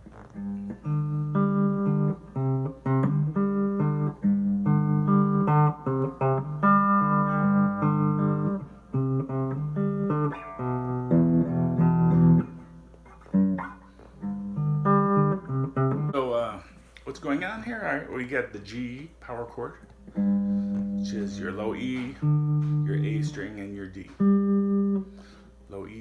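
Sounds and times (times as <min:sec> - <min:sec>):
electric guitar power chords: 0:00.0 - 0:16.2, 0:19.9 - 0:25.5.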